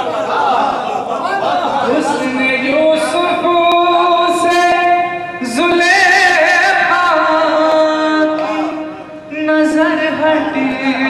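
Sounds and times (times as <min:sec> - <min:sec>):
man singing into a microphone: 0:01.9 - 0:11.0.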